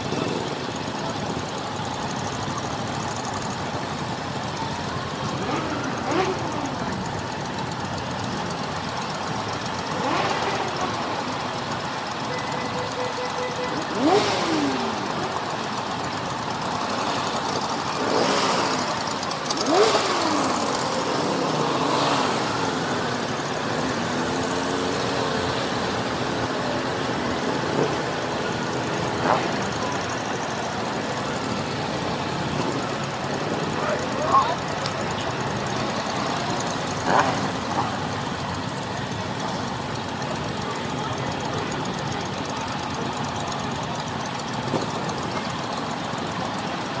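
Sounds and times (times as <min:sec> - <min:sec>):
wind and road noise: 0:00.0 - 0:12.4, 0:13.8 - 0:47.0
motorcycle engines revving: 0:00.0 - 0:47.0.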